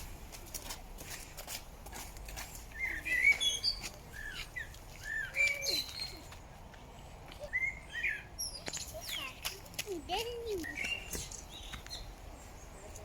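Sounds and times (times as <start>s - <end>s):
small birds chirping: 2.5s - 13.0s.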